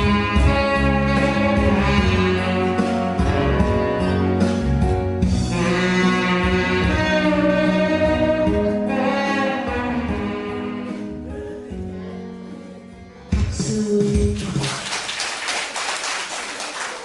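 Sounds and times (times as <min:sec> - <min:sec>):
instrumental music: 0:00.0 - 0:14.6.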